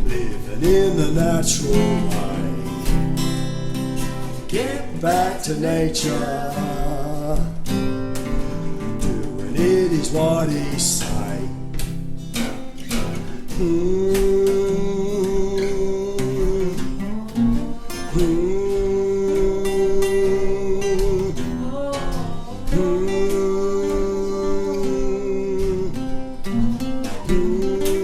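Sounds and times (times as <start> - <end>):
person singing wordless notes: 0.0 - 3.5, 4.2 - 7.9, 8.8 - 26.4, 27.0 - 28.0
acoustic bass: 0.0 - 28.0
acoustic guitars strumming: 0.0 - 28.0.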